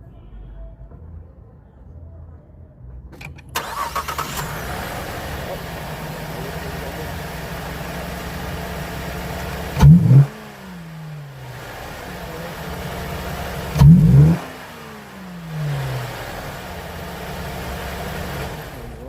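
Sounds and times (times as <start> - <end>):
car engine idling: 3.2 - 19.0
engine revving: 3.2 - 19.0.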